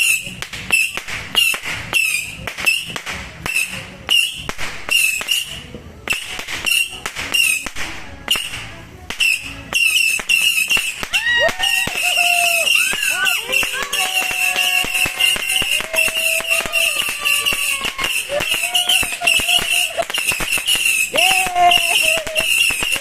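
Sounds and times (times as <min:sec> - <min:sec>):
firecrackers banging: 0:00.0 - 0:23.0.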